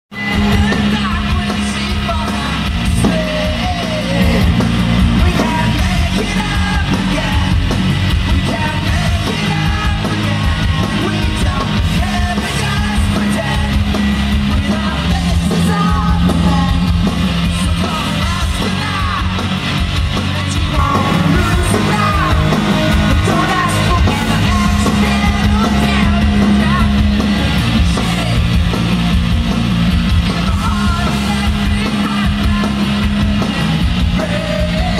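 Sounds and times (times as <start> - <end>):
live rock band playing: 0.1 - 34.9.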